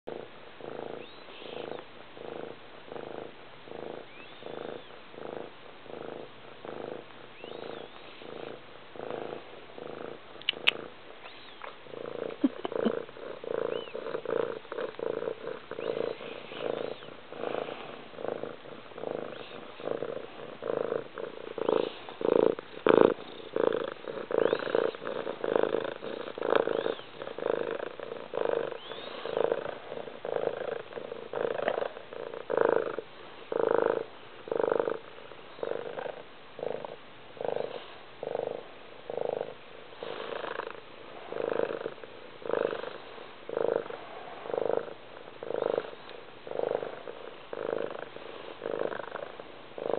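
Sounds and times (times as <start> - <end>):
cat purring loudly: 0.1 - 49.9.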